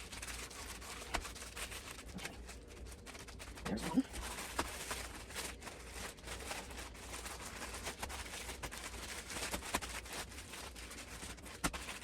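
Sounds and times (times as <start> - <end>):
plastic bags rustling and crinkling: 0.0 - 12.0.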